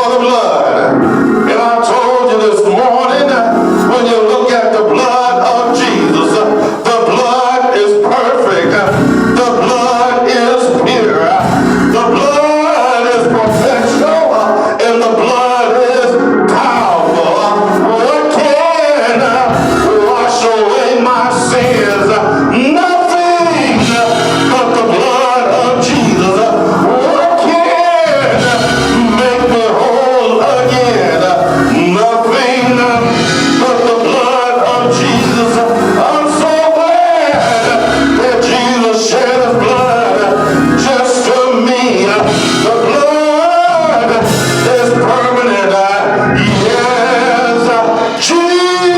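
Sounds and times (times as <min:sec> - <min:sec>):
gospel music: 0:00.0 - 0:48.9
man singing: 0:00.0 - 0:48.9.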